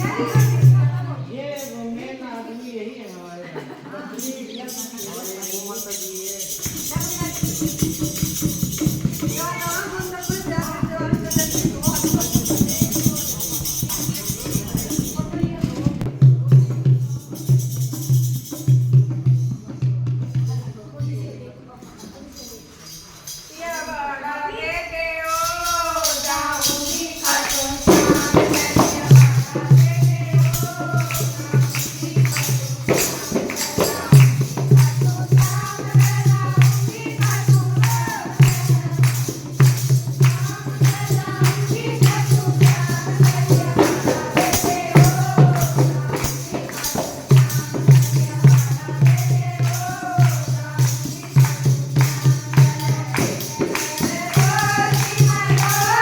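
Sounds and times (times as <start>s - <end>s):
rhythmic percussion: 0.0s - 56.0s.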